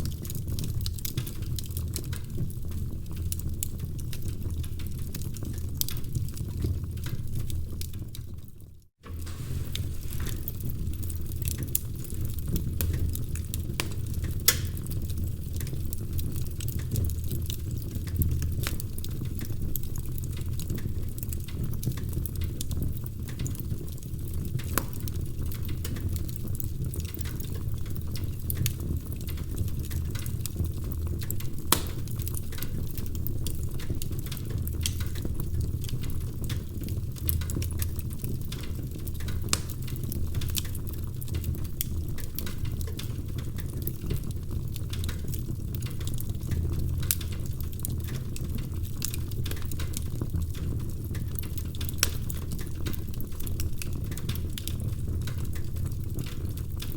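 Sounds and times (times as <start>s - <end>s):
flames rumbling in a fireplace: 0.0s - 56.9s
wood fire snapping and popping: 0.0s - 56.9s.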